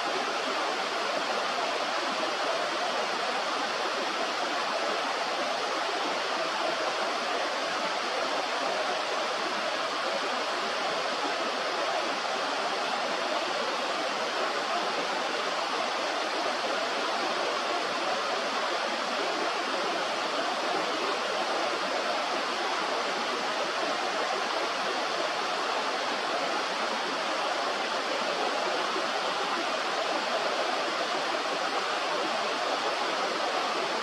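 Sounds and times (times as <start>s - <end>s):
river water rushing: 0.0s - 34.0s.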